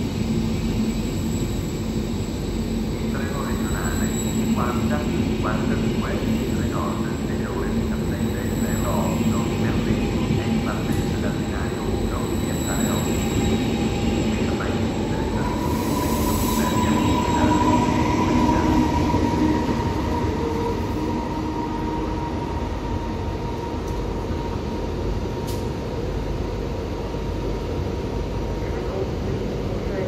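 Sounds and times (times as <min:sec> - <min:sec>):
steady high whine: 0:00.0 - 0:30.0
train wheels rumbling on track: 0:00.0 - 0:30.0.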